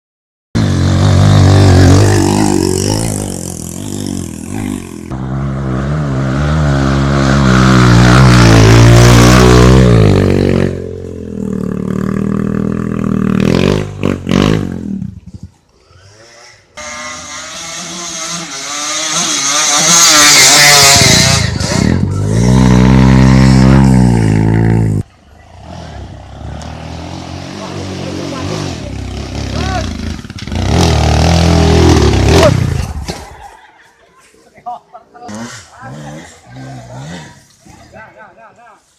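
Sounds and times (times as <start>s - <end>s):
dirt bike engines revving: 0.6s - 38.3s.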